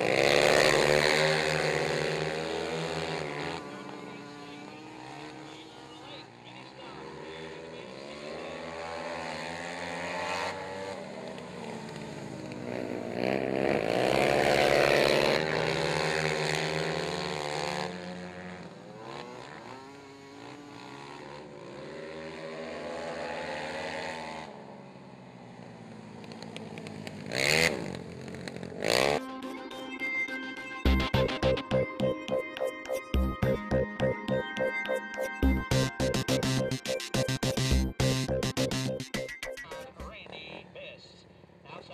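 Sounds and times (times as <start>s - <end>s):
quad engines revving: 0.0s - 32.4s, 33.0s - 40.8s.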